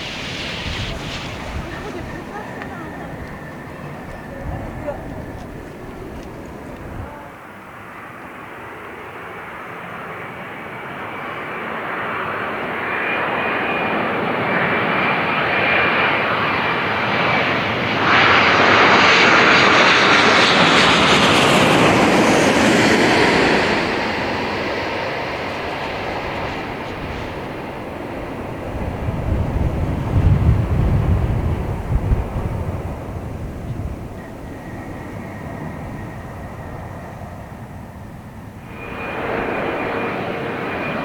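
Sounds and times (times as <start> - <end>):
airliner engine noise: 0.0 - 41.0
thin high engine whine: 0.0 - 41.0.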